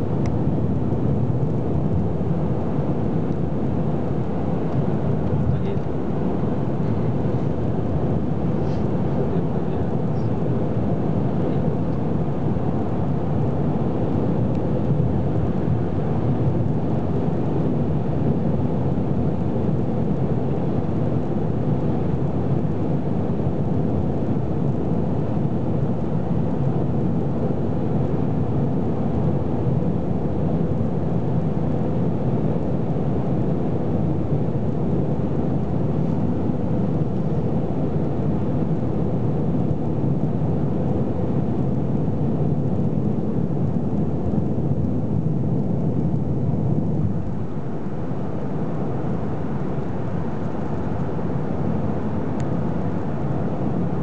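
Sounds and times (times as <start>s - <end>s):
road and wind noise in car: 0.0s - 54.0s.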